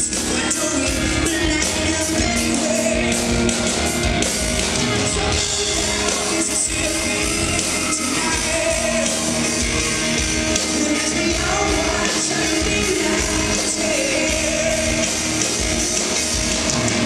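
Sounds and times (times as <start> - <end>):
live rock band with singer: 0.0 - 17.0.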